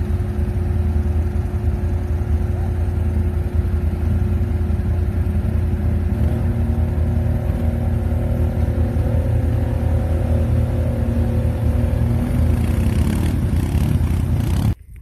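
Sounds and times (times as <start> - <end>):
quad ploughing through water: 0.0 - 14.9
atv engine running under load: 0.0 - 15.0.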